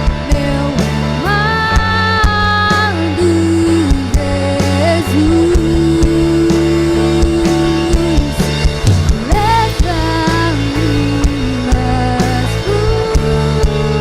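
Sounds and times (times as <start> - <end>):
band playing instrumental: 0.0 - 14.0
steady drum beat: 0.0 - 14.0.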